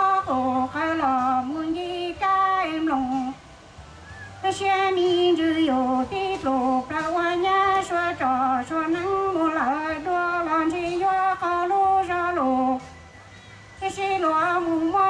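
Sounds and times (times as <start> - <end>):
woman singing through pa system: 0.0 - 3.4, 4.4 - 13.0, 13.8 - 15.0.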